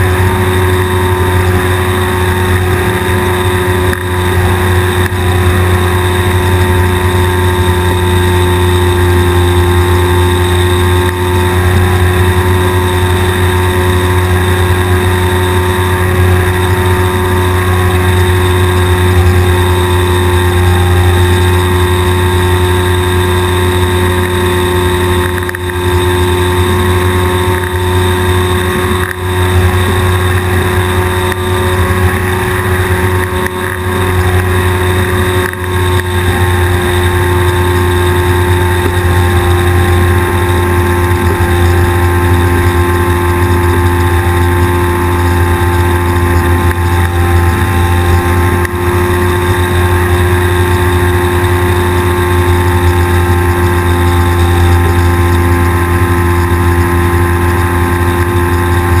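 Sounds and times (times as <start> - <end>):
microlight engine and propeller drone: 0.0 - 59.0.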